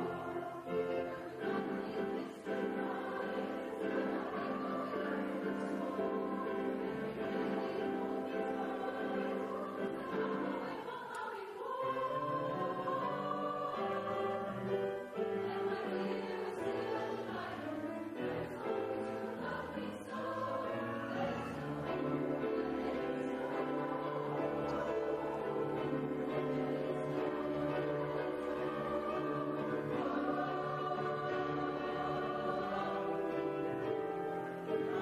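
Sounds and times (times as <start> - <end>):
choir singing held chords: 0.0 - 35.0.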